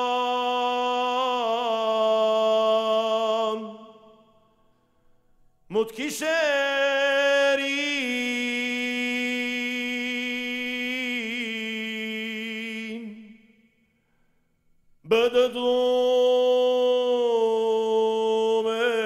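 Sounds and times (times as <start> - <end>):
man singing unaccompanied: 0.0 - 4.3, 5.7 - 13.5, 15.0 - 19.0.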